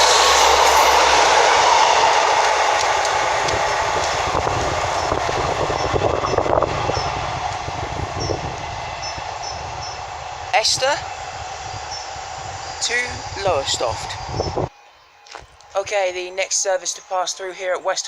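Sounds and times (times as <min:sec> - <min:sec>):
train rumble and rail noise: 0:00.0 - 0:18.0.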